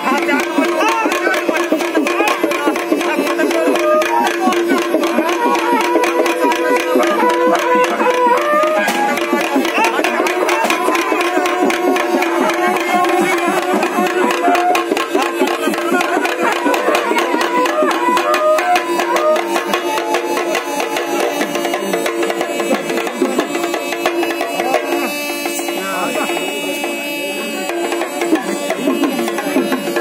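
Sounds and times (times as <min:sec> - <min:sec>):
hand drums beaten fast: 0:00.0 - 0:30.0
wavering melody line: 0:00.1 - 0:30.0.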